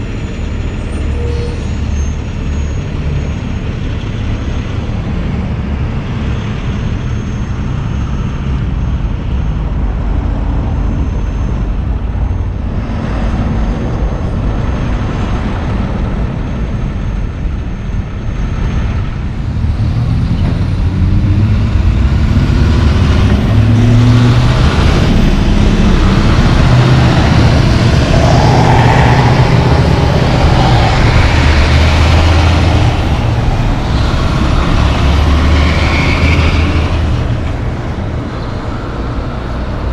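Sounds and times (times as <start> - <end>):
diesel truck engines rumbling: 0.0 - 39.9
traffic: 0.0 - 39.9.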